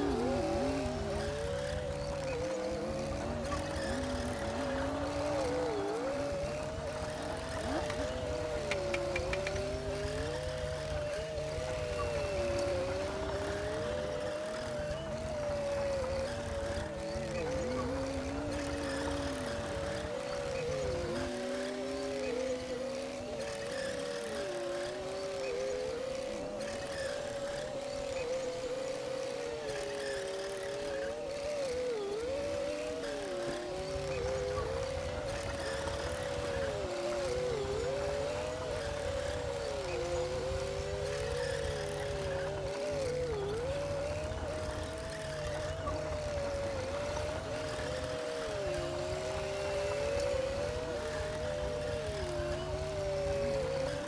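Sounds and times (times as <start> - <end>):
bulldozer engine whining under load: 0.0 - 54.0.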